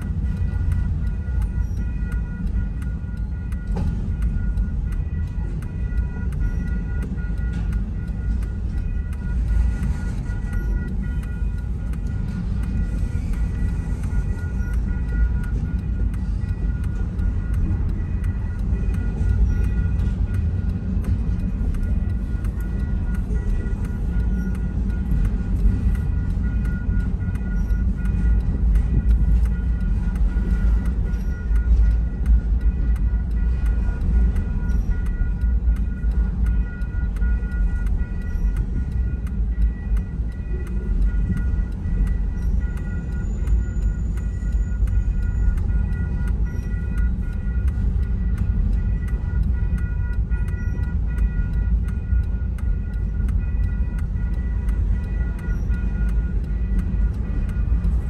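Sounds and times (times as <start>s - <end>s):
train rolling past rumble: 0.0s - 58.0s.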